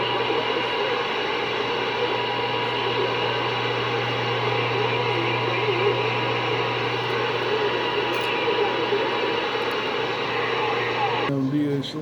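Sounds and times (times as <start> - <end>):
low hum: 0.0 - 11.3
radio static hiss: 0.0 - 11.3.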